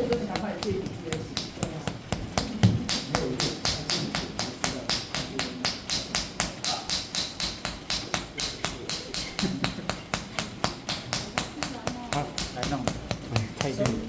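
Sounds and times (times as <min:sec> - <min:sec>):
hand slapping bare skin: 0:00.0 - 0:14.0.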